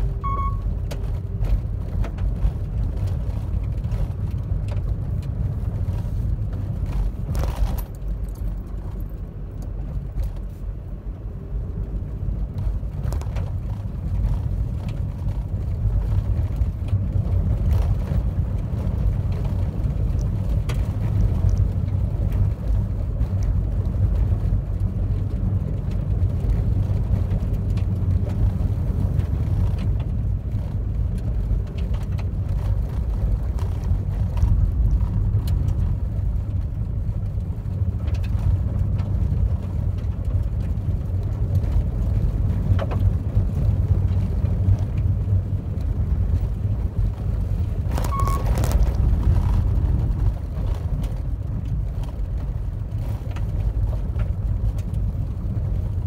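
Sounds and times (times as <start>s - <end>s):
tyres and engine rumble: 0.0s - 56.0s.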